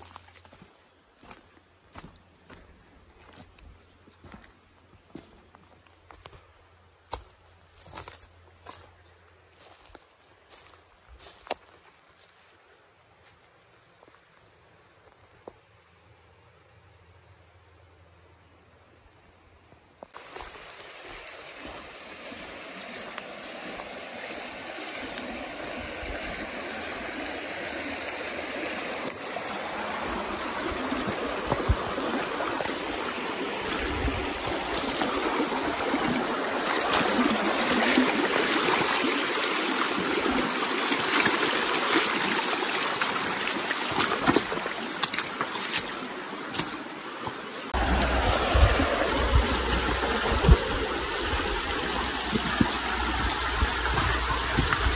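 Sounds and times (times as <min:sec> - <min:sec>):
river running over gravel: 0:00.0 - 0:15.9, 0:20.0 - 0:54.9.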